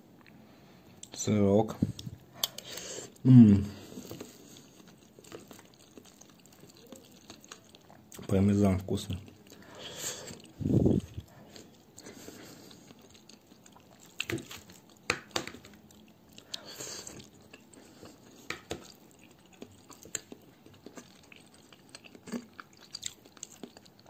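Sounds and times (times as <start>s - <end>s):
person chewing food: 1.8s - 8.3s, 9.1s - 24.0s.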